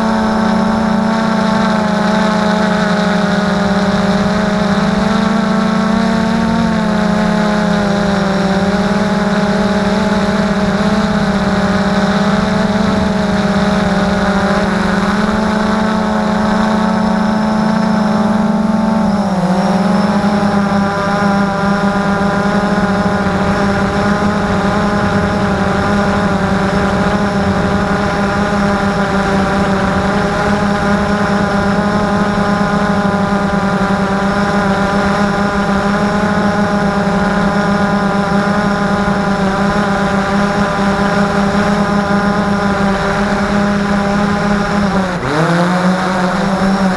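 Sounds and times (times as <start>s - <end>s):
drone propellers whining: 0.0s - 46.9s.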